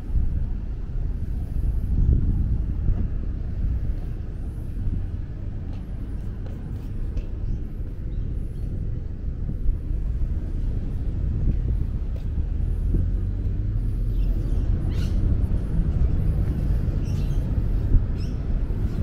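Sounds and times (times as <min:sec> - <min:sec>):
low rumble of city ambience: 0:00.0 - 0:19.0.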